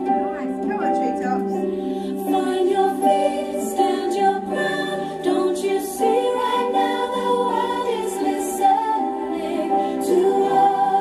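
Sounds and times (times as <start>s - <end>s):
choir singing pop song: 0.0s - 0.8s, 1.5s - 11.0s.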